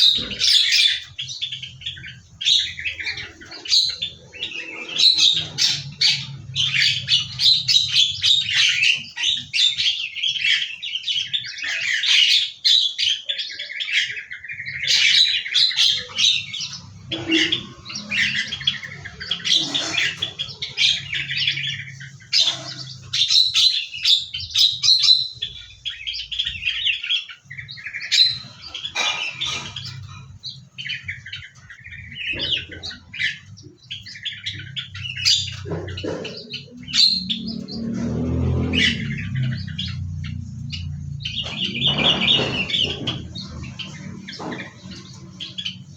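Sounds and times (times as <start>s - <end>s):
bird squawks: 0.0s - 45.9s
small birds chirping: 0.0s - 45.9s.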